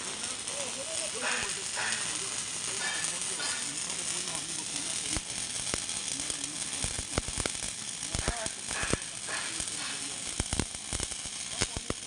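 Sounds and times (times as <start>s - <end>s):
arc welding hiss with pops: 0.0s - 12.0s.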